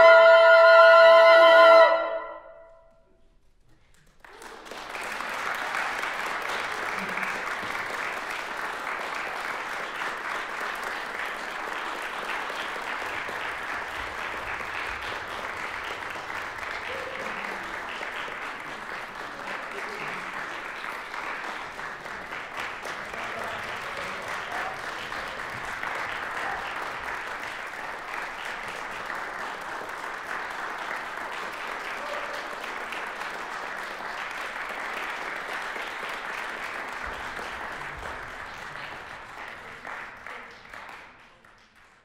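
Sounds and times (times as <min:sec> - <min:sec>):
audience applauding: 0:03.6 - 0:42.0.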